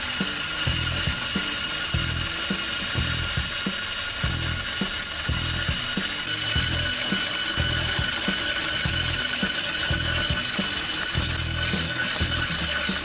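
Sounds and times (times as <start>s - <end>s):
electric hand blender whining: 0.0s - 13.0s.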